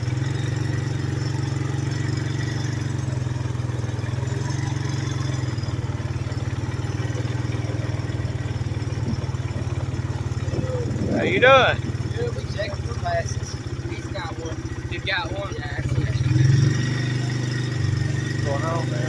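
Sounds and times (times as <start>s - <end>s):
off-road vehicle engine droning: 0.0s - 19.0s.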